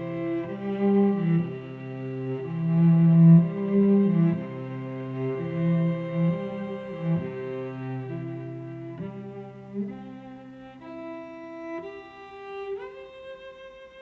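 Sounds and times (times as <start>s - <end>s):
slow bowed string music: 0.0s - 14.0s.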